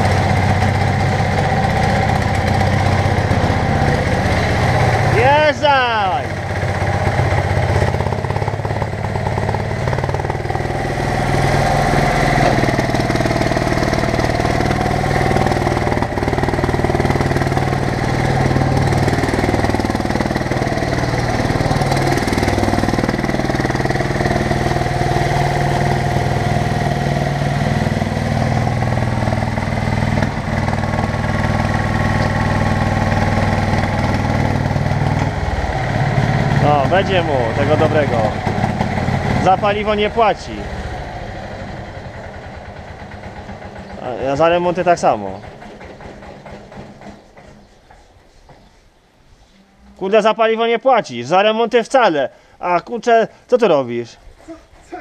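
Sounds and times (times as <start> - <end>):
loader engine running hard: 0.0 - 47.6.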